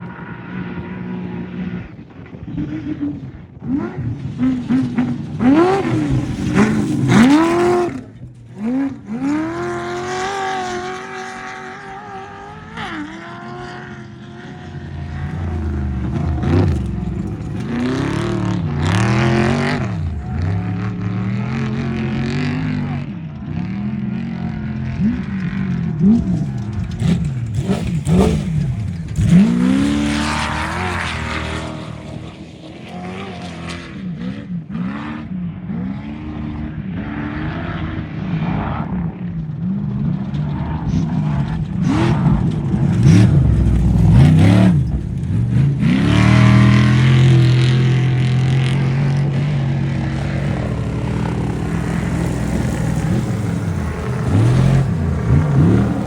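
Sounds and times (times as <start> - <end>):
truck engines revving: 0.0 - 56.0.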